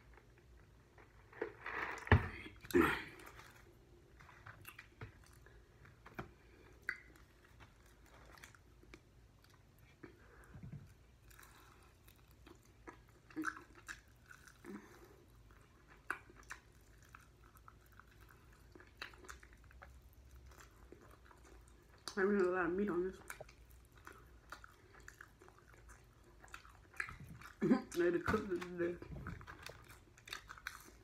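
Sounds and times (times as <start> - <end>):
person chewing chicken wings: 3.0 - 22.2, 23.3 - 27.6, 29.2 - 31.0.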